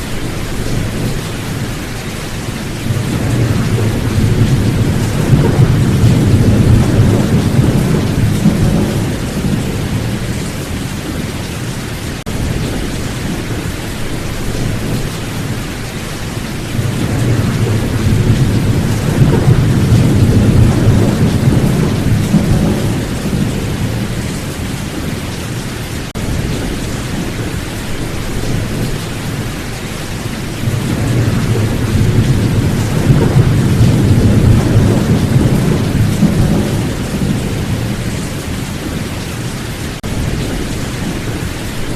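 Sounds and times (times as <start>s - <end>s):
rolling thunder: 0.0s - 11.5s, 12.2s - 25.3s, 26.1s - 41.9s
heavy rain: 0.0s - 41.9s.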